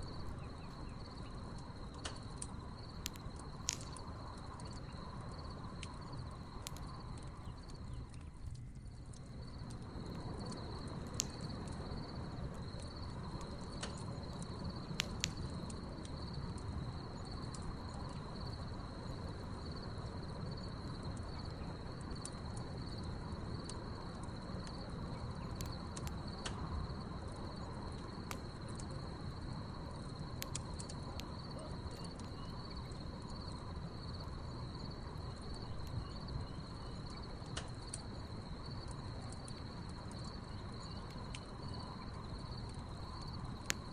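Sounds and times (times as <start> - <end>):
burning logs popping: 0.0 - 43.9
crackling wood fire: 0.0 - 43.9
crickets trilling: 0.0 - 43.9.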